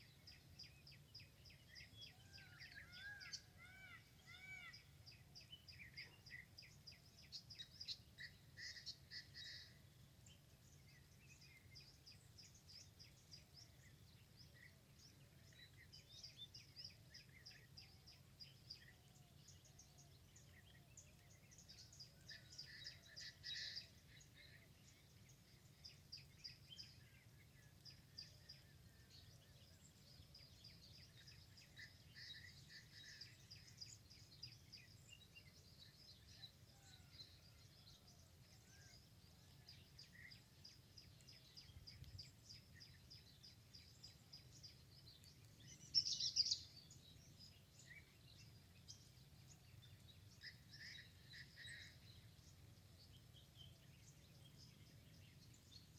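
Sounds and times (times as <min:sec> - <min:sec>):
small birds chirping: 0:10.8 - 0:55.9.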